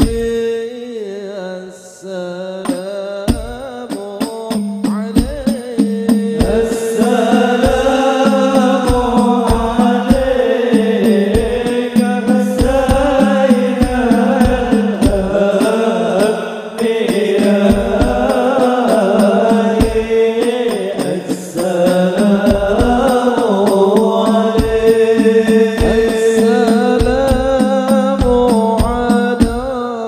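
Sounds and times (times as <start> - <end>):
frame drums: 0.0 - 0.4, 2.6 - 29.8
men singing devotional lines: 0.0 - 30.0.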